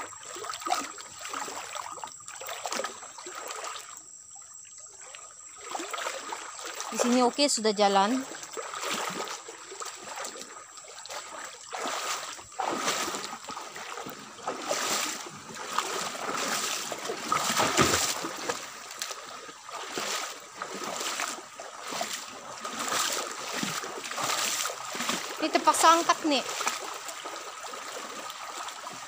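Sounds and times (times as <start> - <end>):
person wading through water: 0.0 - 29.0.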